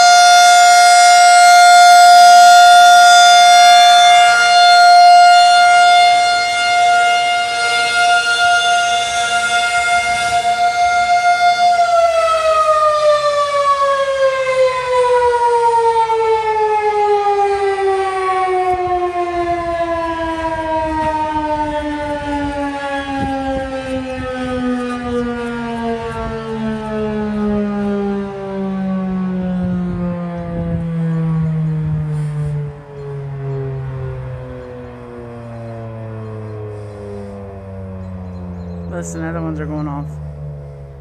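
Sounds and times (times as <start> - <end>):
tornado siren winding down: 0.0 - 41.0.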